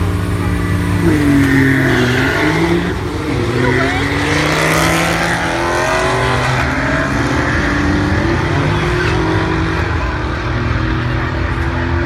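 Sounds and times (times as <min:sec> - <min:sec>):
drag race engines at full throttle: 0:00.0 - 0:12.0.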